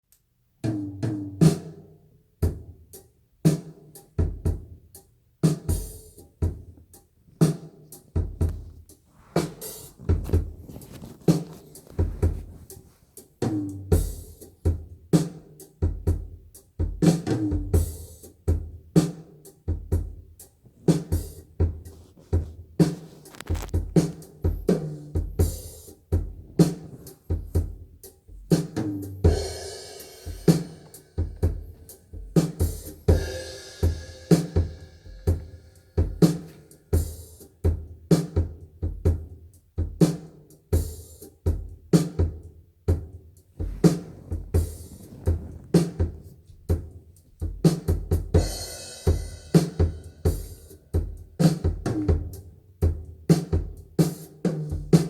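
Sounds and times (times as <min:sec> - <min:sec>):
drum kit music over loudspeakers: 0:00.6 - 0:55.0.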